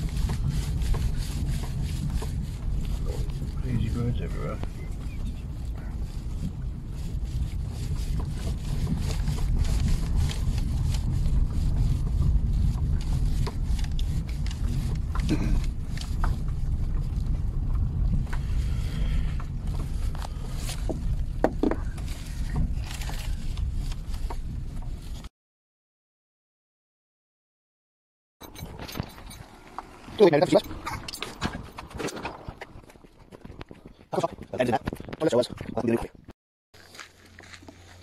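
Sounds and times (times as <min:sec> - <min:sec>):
car driving on rough track: 0:00.0 - 0:25.3, 0:28.4 - 0:35.8.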